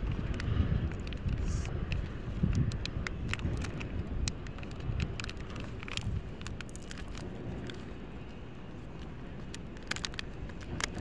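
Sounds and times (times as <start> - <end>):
sharp crackles and clicks: 0.0 - 11.0
wind buffeting microphone: 0.0 - 11.0.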